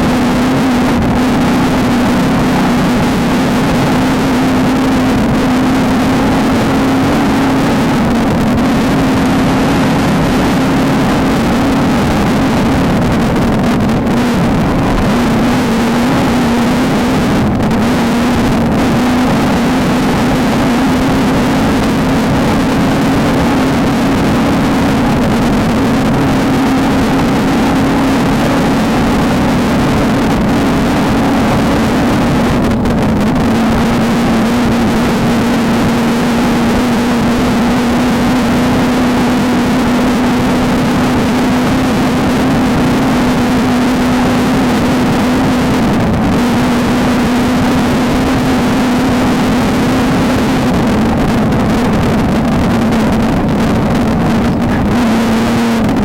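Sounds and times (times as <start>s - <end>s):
race car engine at high revs: 0.0s - 56.0s
road and wind noise: 0.0s - 56.0s.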